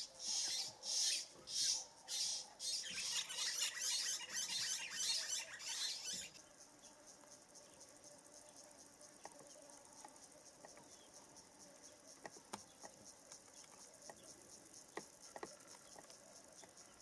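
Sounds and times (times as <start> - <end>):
high-pitched insect chirping: 0.0 - 17.0.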